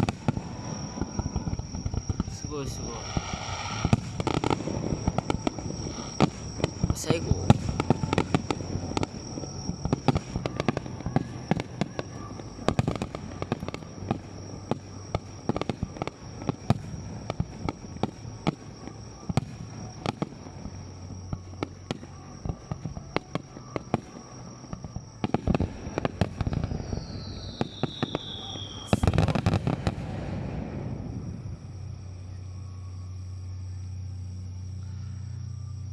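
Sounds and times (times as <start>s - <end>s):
fireworks bursting and crackling: 0.0s - 32.4s
falling firework whistle: 0.0s - 33.4s.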